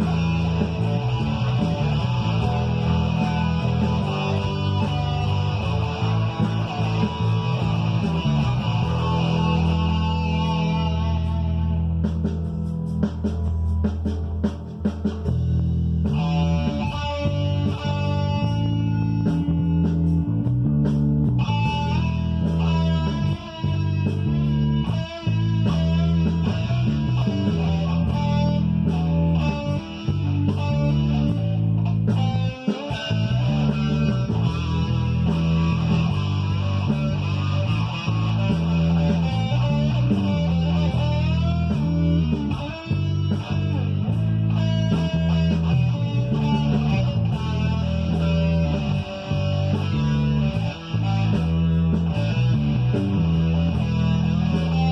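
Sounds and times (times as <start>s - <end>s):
electric guitar with bent notes: 0.0s - 54.9s
rock backing track: 0.0s - 54.9s.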